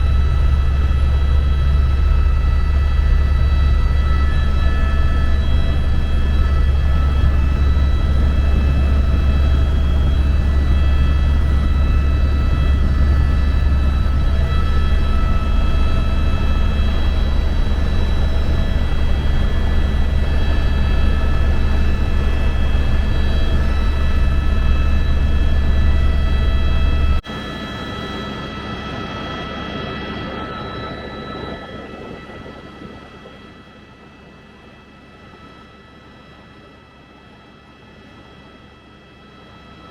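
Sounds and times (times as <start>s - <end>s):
high whining tones: 0.0s - 33.7s
helicopter rotor and engine drone: 0.0s - 39.9s.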